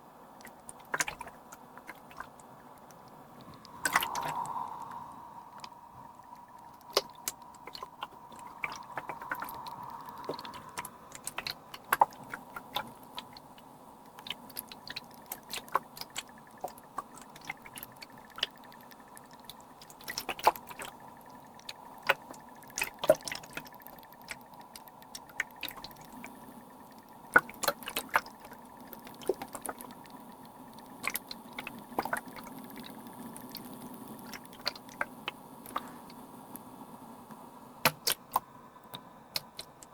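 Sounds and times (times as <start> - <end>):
faint steady hum: 0.0 - 39.9
water droplets dripping: 0.4 - 36.6.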